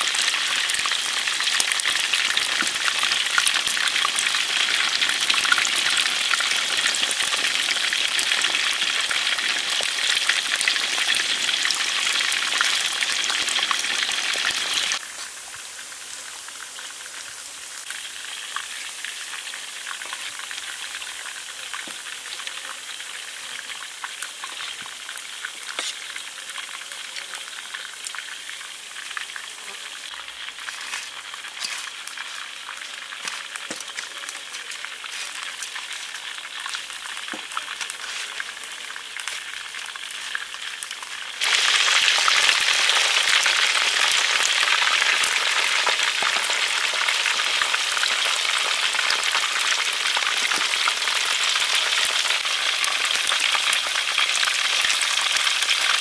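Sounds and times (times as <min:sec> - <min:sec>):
food deep-frying in oil: 0:00.0 - 0:56.0.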